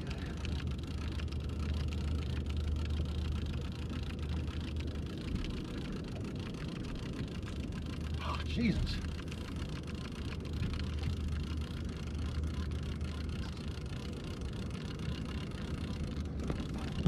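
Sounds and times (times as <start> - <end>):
outboard motor humming: 0.0 - 17.0
wind: 0.0 - 17.0.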